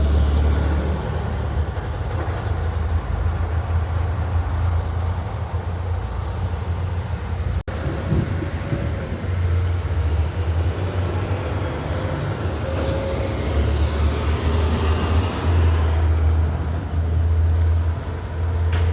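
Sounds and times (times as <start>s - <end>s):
heavy road traffic: 0.0s - 18.9s
truck engines droning: 0.0s - 18.9s.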